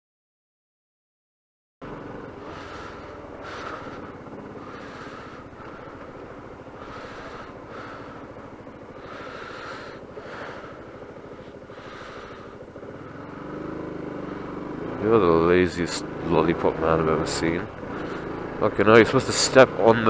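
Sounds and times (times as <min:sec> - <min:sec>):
motorcycle engine rumbling: 0:01.8 - 0:20.0.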